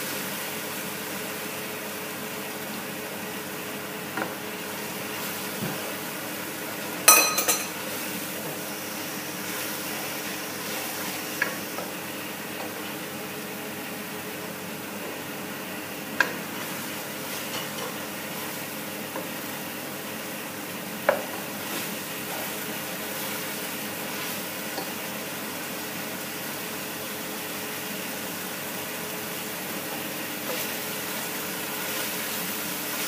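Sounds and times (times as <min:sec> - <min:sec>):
masala sizzling in oil: 0:00.0 - 0:33.0.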